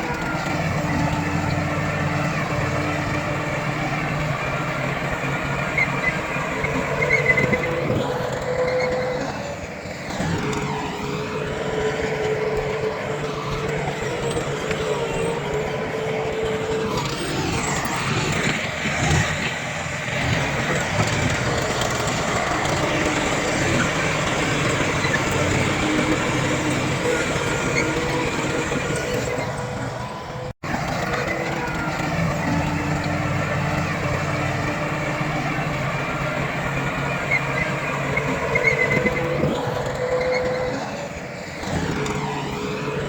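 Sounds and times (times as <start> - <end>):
diesel engines running: 0.0 - 43.0.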